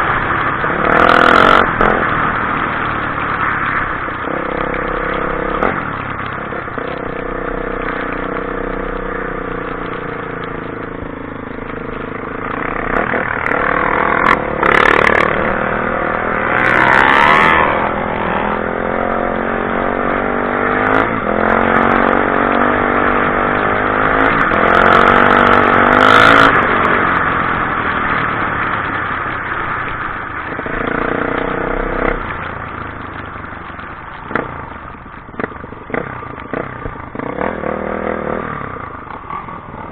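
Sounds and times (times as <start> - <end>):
vehicle engines passing: 0.0 - 39.9.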